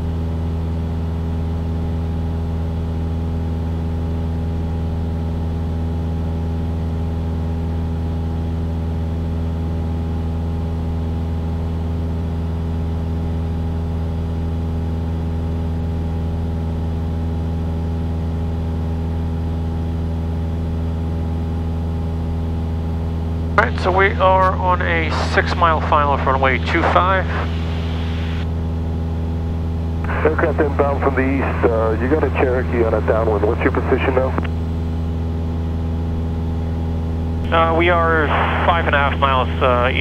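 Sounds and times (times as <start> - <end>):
aircraft engine drone in cabin: 0.0 - 40.0.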